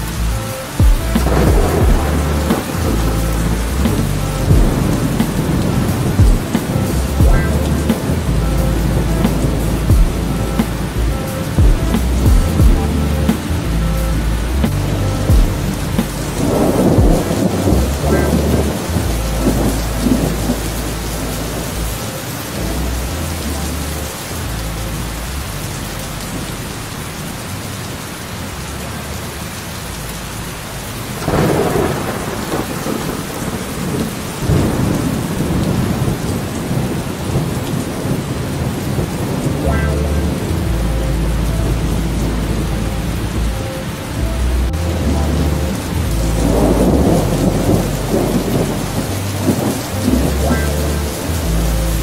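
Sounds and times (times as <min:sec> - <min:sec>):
thunder rumbling: 0:00.0 - 0:28.0, 0:30.6 - 0:52.0
heavy rain: 0:00.0 - 0:52.0.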